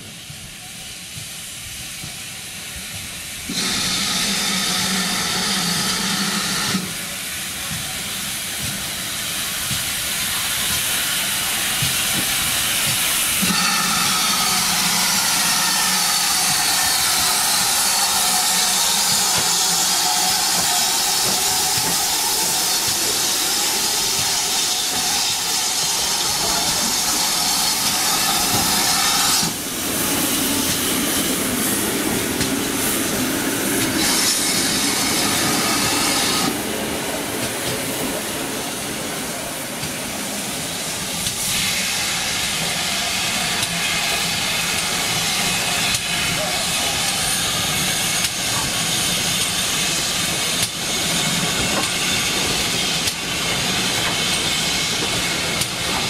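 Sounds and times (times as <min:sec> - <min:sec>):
steam locomotive hissing steam: 0:00.0 - 0:56.0.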